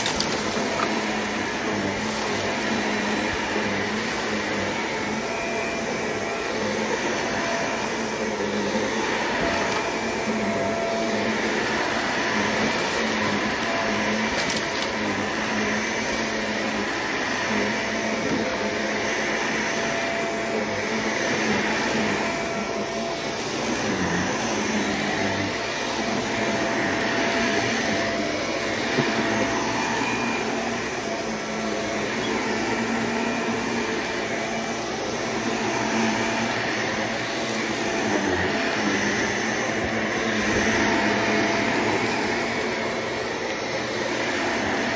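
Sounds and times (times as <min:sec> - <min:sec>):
stick vacuum cleaner on carpet: 0:00.0 - 0:44.9.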